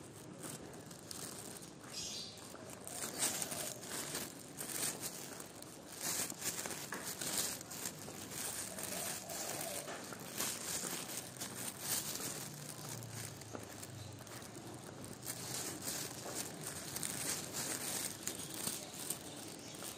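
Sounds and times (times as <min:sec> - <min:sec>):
crinkling of wrappers: 0:00.0 - 0:19.9
faint voices: 0:00.0 - 0:19.9.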